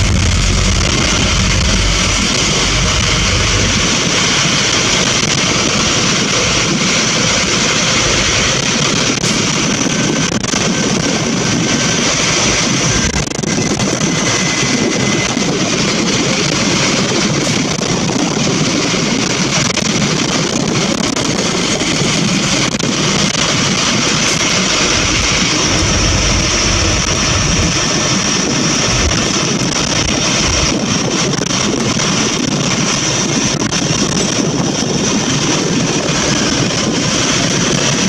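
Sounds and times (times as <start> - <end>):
bus engine and road noise: 0.0 - 38.0.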